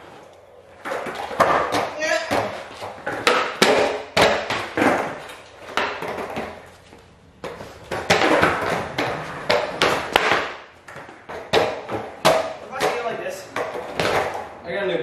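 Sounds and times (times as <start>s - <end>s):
skateboards cracking on concrete: 0.0s - 6.8s, 7.4s - 14.5s.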